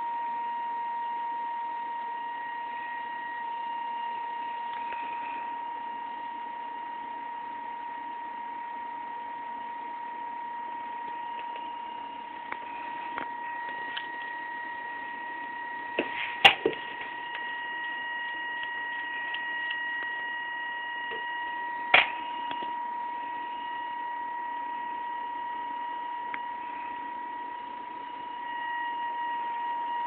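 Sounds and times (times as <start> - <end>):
small motor high whine: 0.0 - 30.0.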